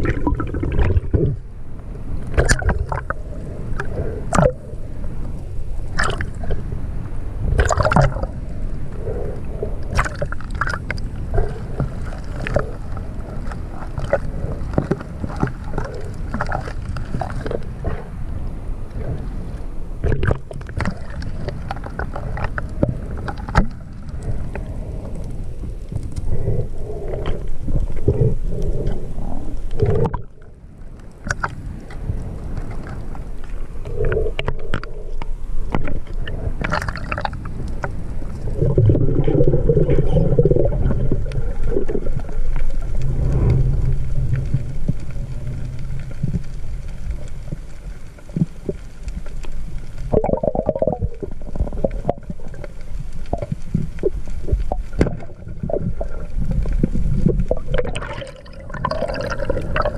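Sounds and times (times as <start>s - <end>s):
water rumbling and gurgling: 0.0s - 59.9s.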